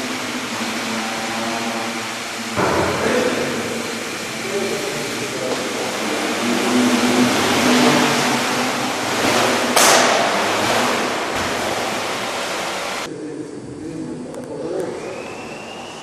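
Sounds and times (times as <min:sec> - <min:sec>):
drone propellers whirring: 0:00.0 - 0:13.1.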